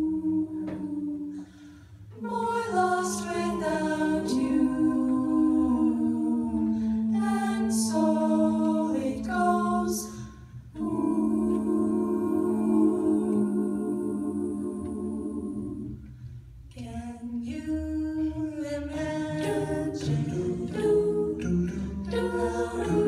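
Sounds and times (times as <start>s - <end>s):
a cappella vocal harmony: 0.0s - 23.0s.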